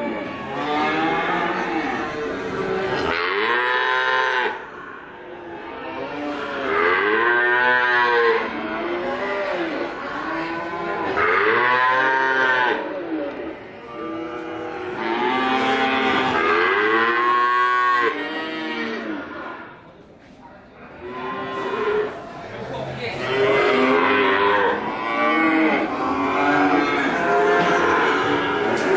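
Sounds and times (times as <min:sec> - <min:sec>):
calf mooing: 0:00.0 - 0:04.6, 0:05.3 - 0:13.0, 0:13.8 - 0:19.6, 0:23.2 - 0:28.9.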